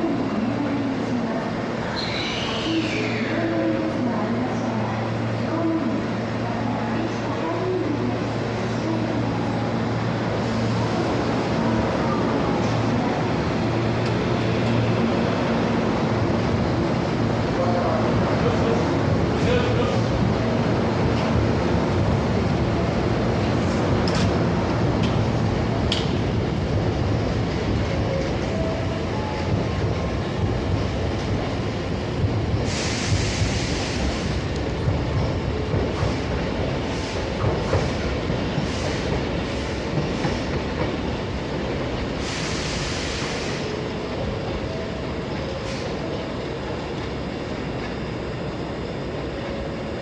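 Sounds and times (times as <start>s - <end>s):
electric train running on rails: 0.0s - 50.0s.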